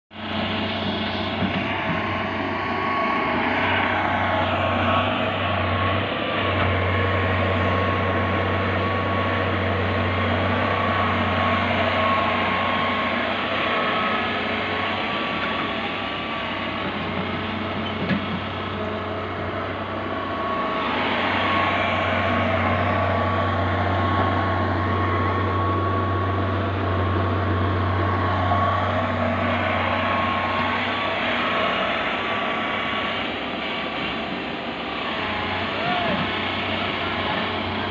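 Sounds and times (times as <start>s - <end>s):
tractor diesel engine running: 0.1s - 37.9s.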